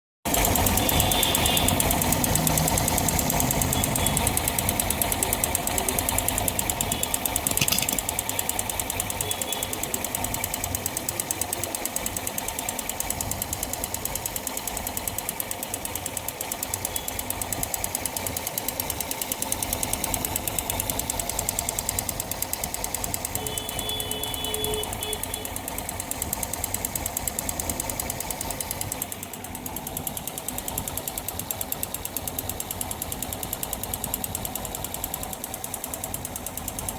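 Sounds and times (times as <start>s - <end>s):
motorcycle engine knocking rattle: 0.2s - 36.9s.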